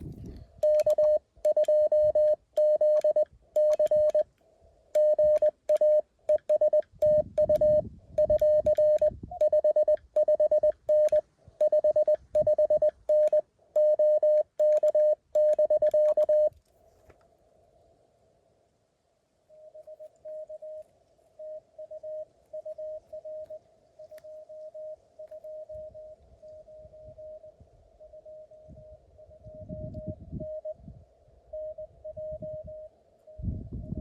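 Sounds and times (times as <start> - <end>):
morse code tone: 0.6 - 4.2, 5.0 - 16.5, 19.5 - 20.8, 21.4 - 30.8, 31.5 - 34.0.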